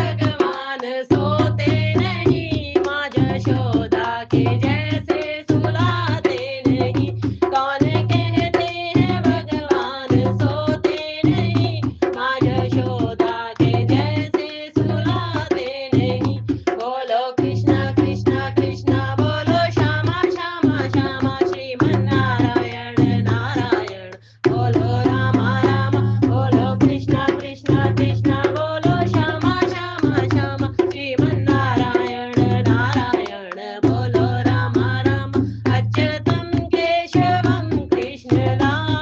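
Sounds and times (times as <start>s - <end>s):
hand drums: 0.0s - 39.0s.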